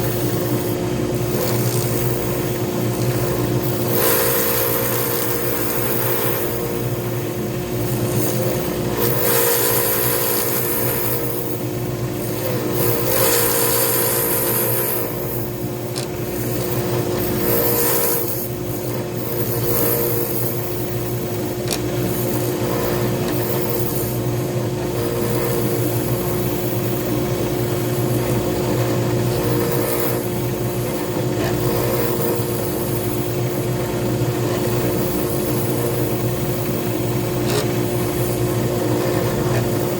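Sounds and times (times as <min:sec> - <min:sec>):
lathe motor hum: 0:00.0 - 0:39.9
tool scraping spinning wood: 0:00.0 - 0:39.9.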